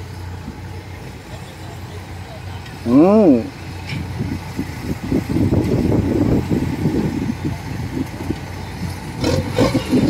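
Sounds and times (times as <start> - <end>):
diesel engine running roughly: 0.0 - 10.0.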